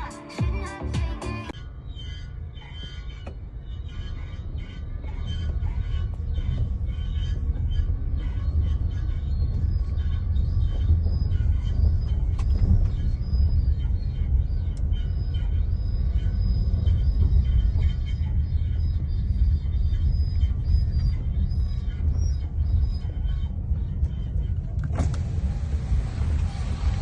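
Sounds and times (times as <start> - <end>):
low vehicle rumble: 0.0 - 27.0.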